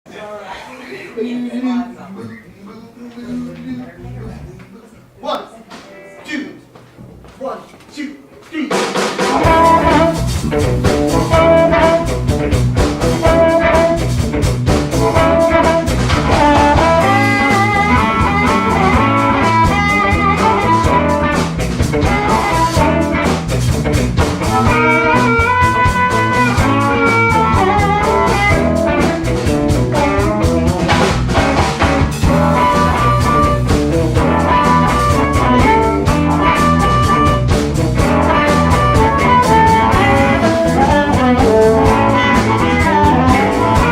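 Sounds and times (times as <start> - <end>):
blues band playing live: 8.7 - 43.9.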